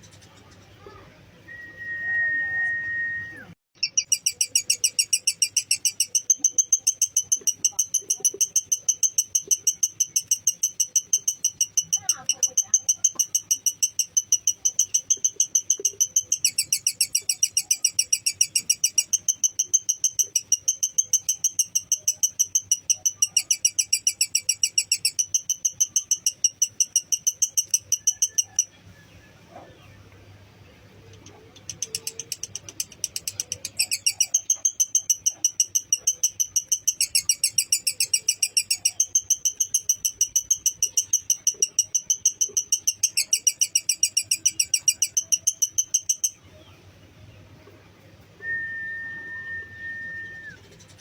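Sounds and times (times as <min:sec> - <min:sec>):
bird chattering high chirps: 0:03.7 - 0:29.6, 0:31.0 - 0:46.8.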